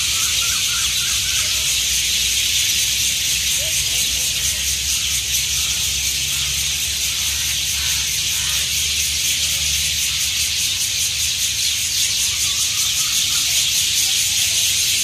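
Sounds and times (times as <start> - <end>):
many birds chattering: 0.0 - 15.0.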